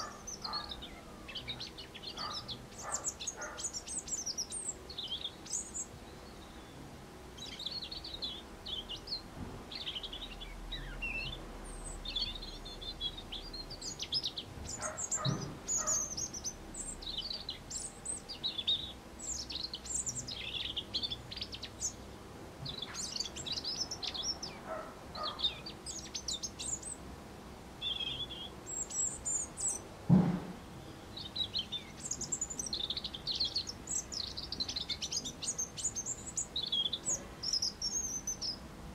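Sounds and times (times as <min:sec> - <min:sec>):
robin singing: 0:00.0 - 0:27.1, 0:27.8 - 0:30.0, 0:30.6 - 0:38.9.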